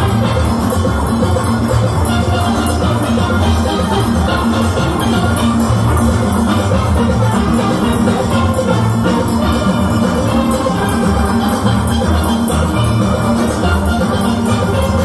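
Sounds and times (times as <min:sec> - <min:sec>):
drum kit and percussion: 0:00.0 - 0:15.0
steel pans playing: 0:00.0 - 0:15.0.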